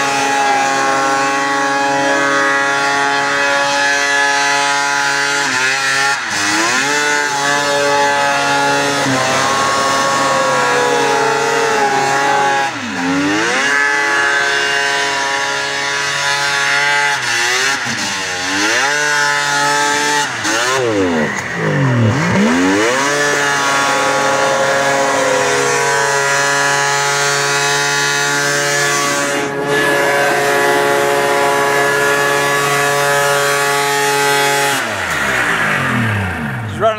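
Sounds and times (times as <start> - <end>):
snowmobile engine revving: 0.0 - 36.9.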